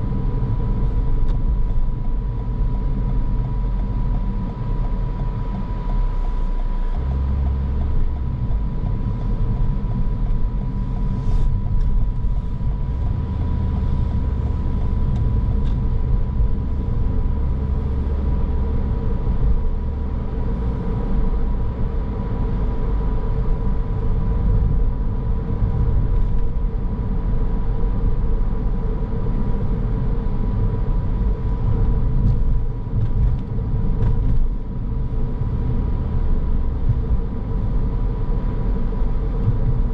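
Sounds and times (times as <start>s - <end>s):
car engine and tyres rumbling: 0.0s - 39.9s
faint steady whine: 0.0s - 39.9s.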